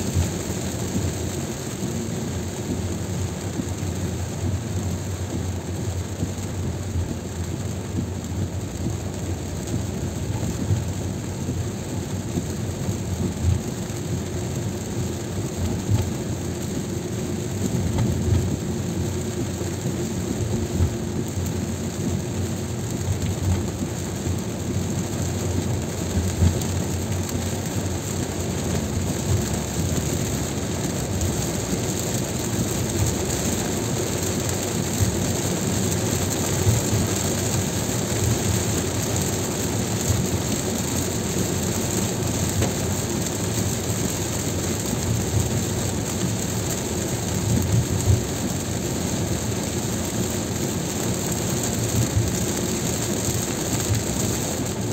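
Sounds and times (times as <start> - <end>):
rain on a car: 0.0 - 54.9
tyre noise on wet road: 0.0 - 54.9.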